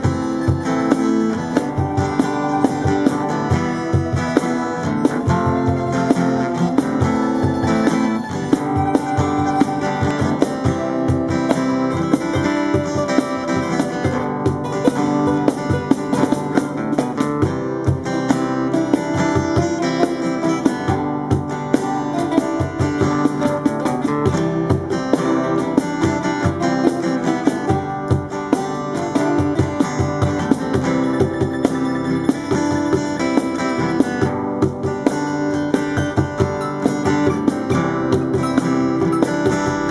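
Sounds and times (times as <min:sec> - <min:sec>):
acoustic guitar strumming: 0:00.0 - 0:39.9
plucked guitar notes: 0:00.0 - 0:39.9.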